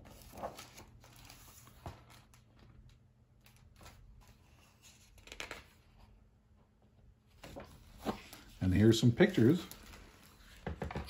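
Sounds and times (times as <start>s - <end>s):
book pages rustling: 0.0s - 6.0s, 7.3s - 11.0s.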